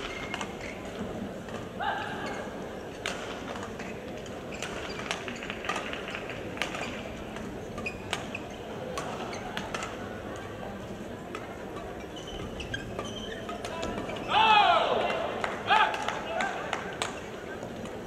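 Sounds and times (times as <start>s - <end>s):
murmur of hall: 0.0s - 18.0s.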